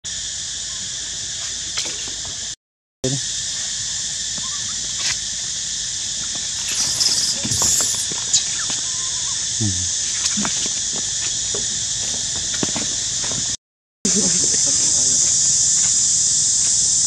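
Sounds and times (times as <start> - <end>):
insects droning: 0.1 - 17.0.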